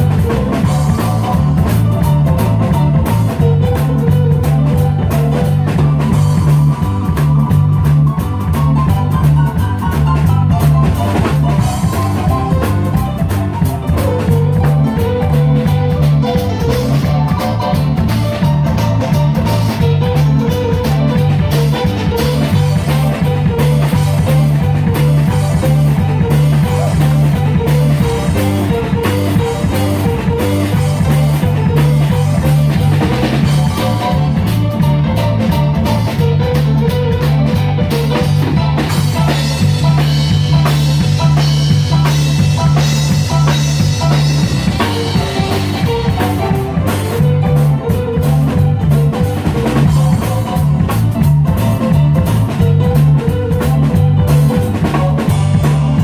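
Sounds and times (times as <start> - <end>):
drum kit: 0.0 - 56.0
electric bass: 0.0 - 56.0
keyboard melody: 0.0 - 56.0.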